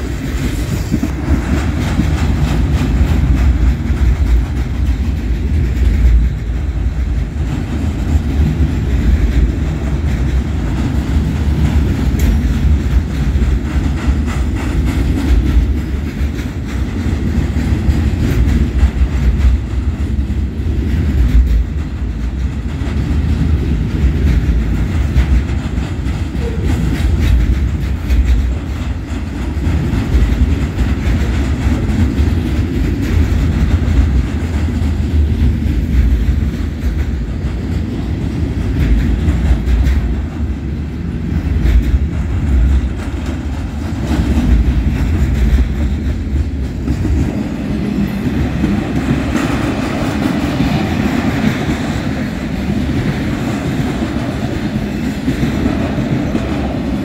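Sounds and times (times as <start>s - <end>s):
train wheels rumbling on rail: 0.0s - 57.0s
wheels clicking over rail joints: 0.2s - 57.0s.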